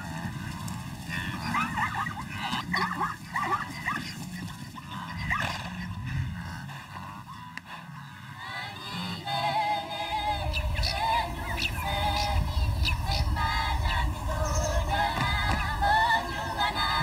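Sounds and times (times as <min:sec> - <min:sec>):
high yelping animal calls: 0:00.0 - 0:17.0
low background noise: 0:00.0 - 0:17.0.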